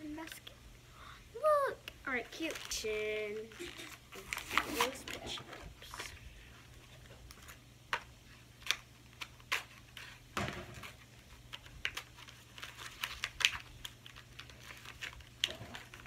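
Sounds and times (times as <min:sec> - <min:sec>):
plastic crinkling: 0:02.2 - 0:10.2, 0:10.8 - 0:16.0.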